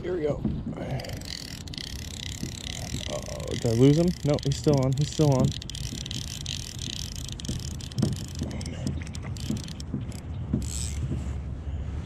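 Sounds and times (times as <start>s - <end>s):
fishing reel drag ticking: 0.9s - 11.1s.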